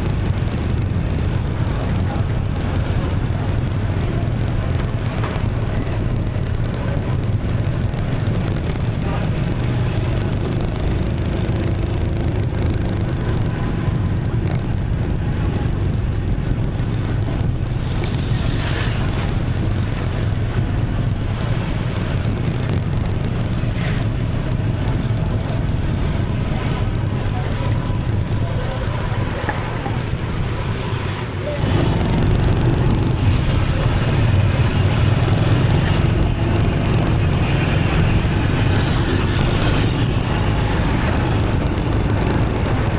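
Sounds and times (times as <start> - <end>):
motorbike rumble: 0.0 - 42.9
vehicles passing close: 0.0 - 42.9.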